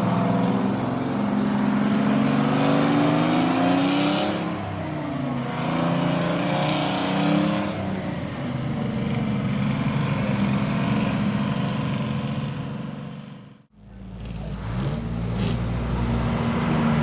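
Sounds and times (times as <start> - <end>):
truck engine revving: 0.0 - 13.0, 13.8 - 17.0.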